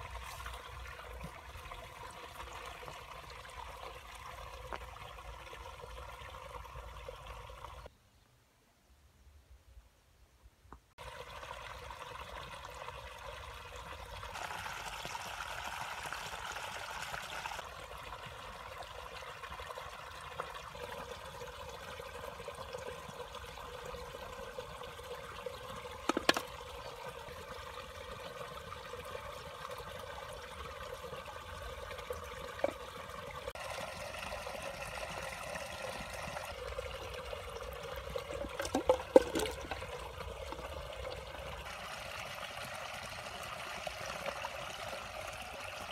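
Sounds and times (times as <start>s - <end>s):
muddy water trickling into a pit: 0.0s - 7.9s, 10.9s - 45.9s.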